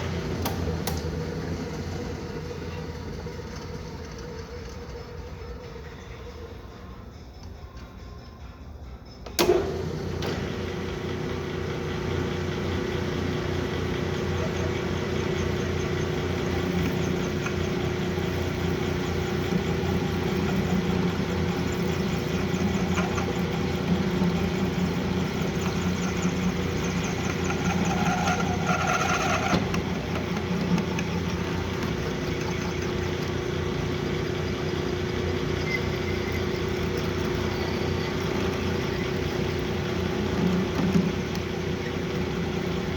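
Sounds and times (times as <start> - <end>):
metal lathe humming: 0.0 - 6.8, 9.4 - 42.9.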